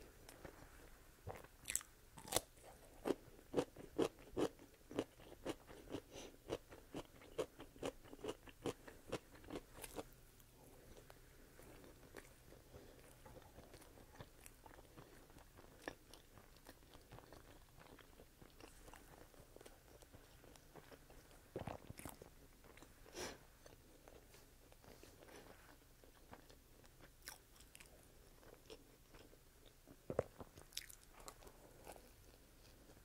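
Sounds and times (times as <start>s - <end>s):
chewing crunchy food: 1.3s - 10.1s, 10.8s - 23.0s, 23.6s - 33.0s.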